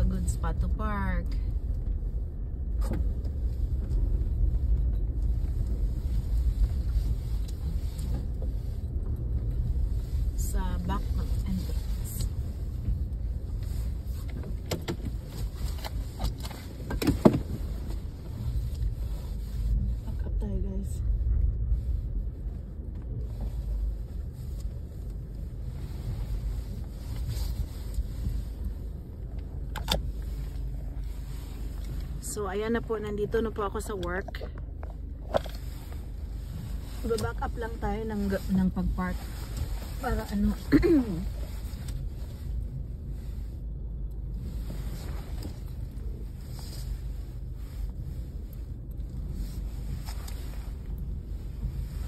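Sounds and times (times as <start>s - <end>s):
car cabin rumble: 0.0s - 52.0s.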